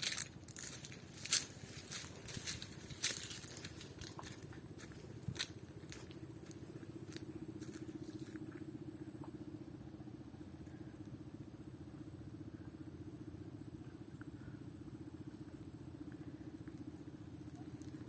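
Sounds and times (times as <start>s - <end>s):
small engine throbbing: 0.0s - 18.0s.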